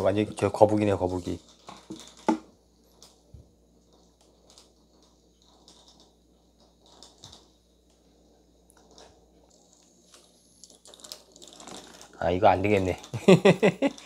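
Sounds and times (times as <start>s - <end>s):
vibrating toy buzzing on wooden floor: 0.0s - 14.0s.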